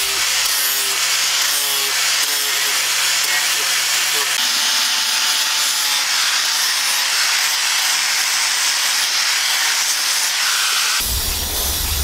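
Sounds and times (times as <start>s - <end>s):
angle grinder sanding wood: 0.0s - 12.0s.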